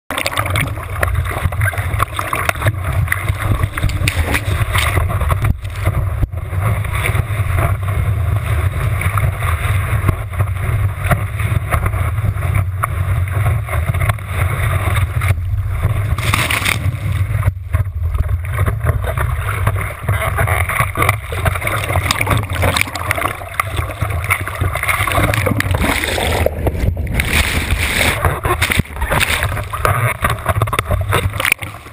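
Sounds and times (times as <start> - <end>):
muffled water rushing: 0.1 - 31.9.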